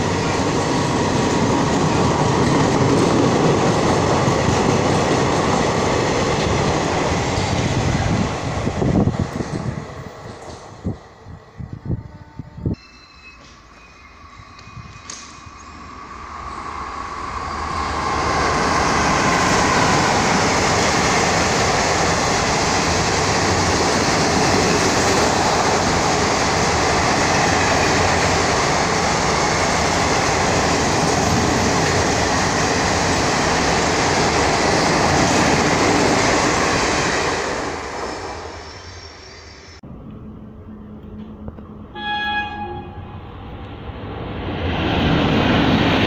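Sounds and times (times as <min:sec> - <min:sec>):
train passing at speed: 0:00.0 - 0:46.0.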